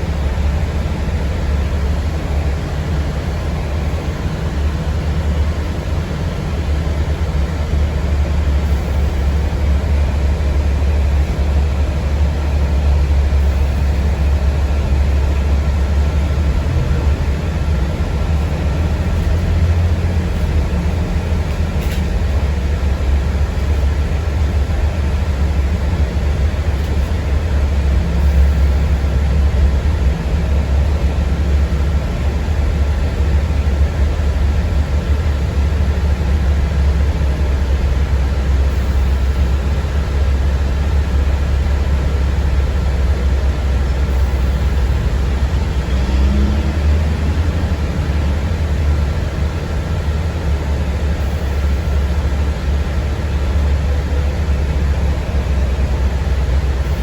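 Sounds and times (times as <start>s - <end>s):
bus interior rumble: 0.0s - 57.0s.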